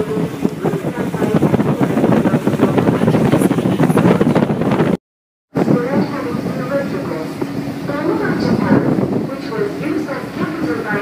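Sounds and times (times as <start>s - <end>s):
boat running noise: 0.0s - 11.0s
wind buffeting microphone: 0.0s - 11.0s.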